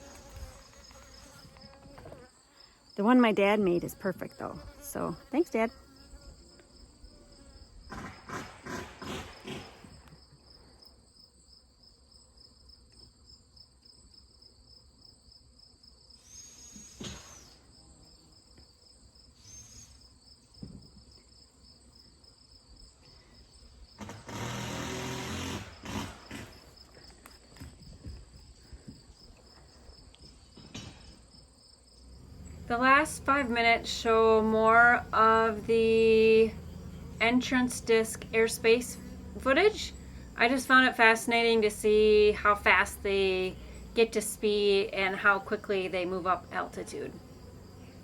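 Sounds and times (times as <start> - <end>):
crickets chirring: 0.0 - 48.0.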